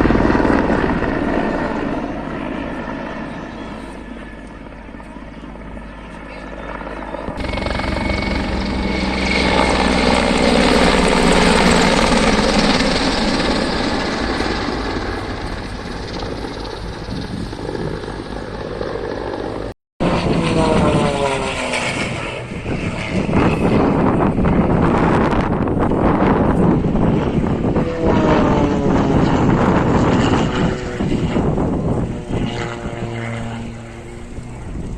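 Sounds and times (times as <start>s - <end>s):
propeller aircraft flying past: 0.0s - 34.9s.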